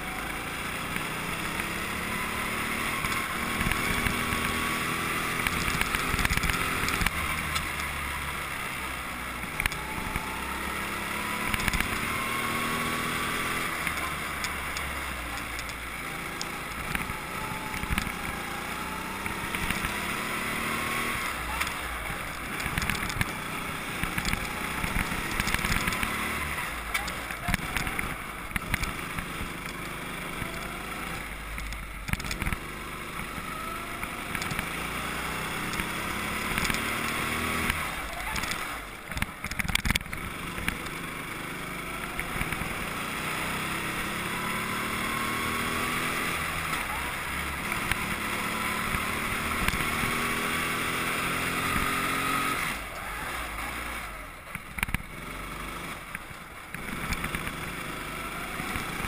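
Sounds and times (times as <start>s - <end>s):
go-kart engine accelerating: 0.0s - 59.0s.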